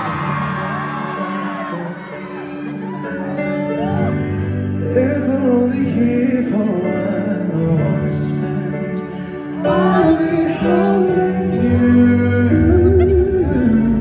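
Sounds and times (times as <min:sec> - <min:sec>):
man singing pop ballad: 0:00.0 - 0:02.8, 0:04.7 - 0:14.0
keyboard accompaniment: 0:00.0 - 0:14.0.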